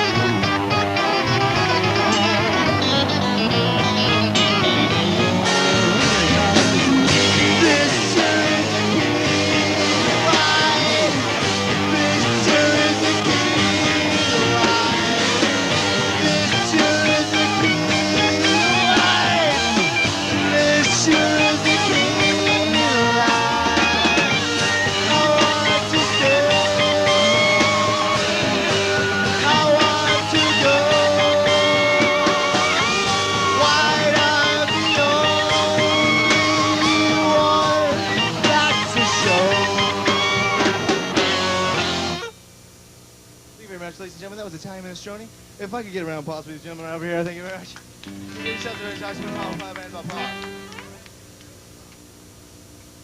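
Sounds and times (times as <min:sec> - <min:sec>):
rock band playing live: 0:00.0 - 0:42.3, 0:48.0 - 0:51.0
sustained electric guitar notes: 0:00.0 - 0:42.4, 0:48.1 - 0:51.1.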